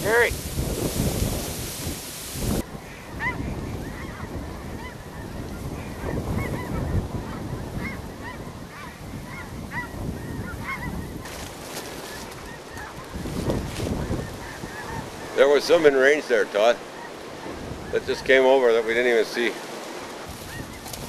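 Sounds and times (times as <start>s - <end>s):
wind noise on microphone: 0.0s - 15.8s, 17.2s - 18.4s, 20.2s - 21.0s
geese honking: 2.8s - 19.8s.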